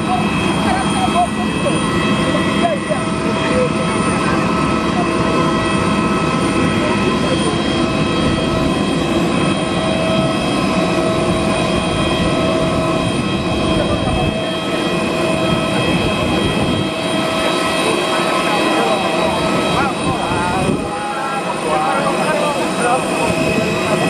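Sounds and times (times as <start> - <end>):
jet turbine whine: 0.0 - 24.0.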